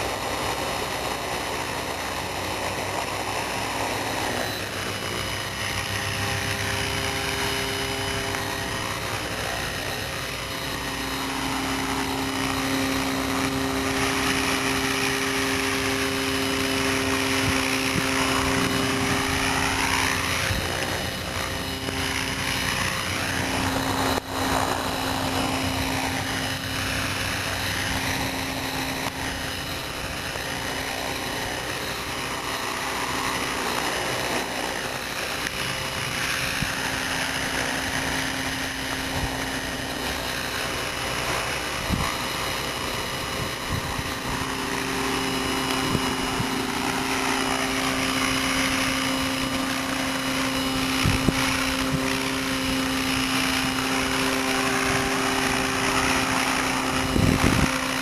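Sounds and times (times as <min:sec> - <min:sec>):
model helicopter rotor hum: 0:00.0 - 0:58.0.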